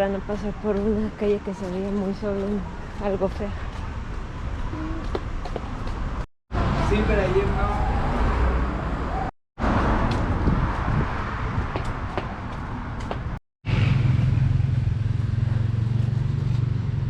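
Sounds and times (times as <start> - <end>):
city street noise: 0.0 - 17.0.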